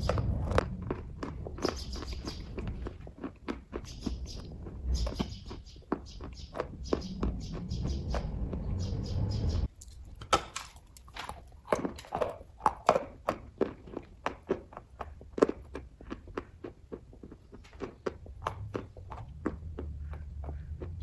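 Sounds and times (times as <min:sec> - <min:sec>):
person chewing with wet smacks: 0:00.0 - 0:08.8, 0:09.7 - 0:21.0.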